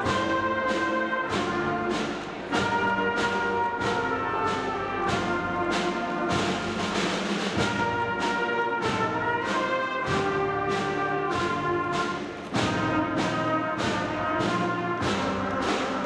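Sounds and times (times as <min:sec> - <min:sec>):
school band playing brass music: 0:00.0 - 0:16.0.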